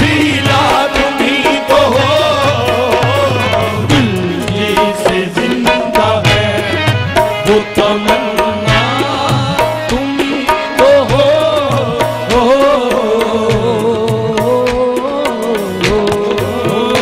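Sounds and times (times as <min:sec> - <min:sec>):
harmoniums holding notes: 0:00.0 - 0:17.0
person singing: 0:00.0 - 0:17.0
tabla rhythm: 0:00.0 - 0:17.0.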